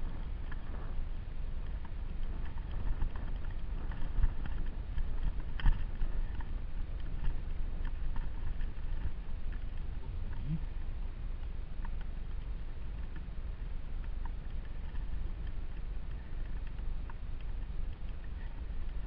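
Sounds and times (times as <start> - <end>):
low microphone rumble: 0.0 - 19.0.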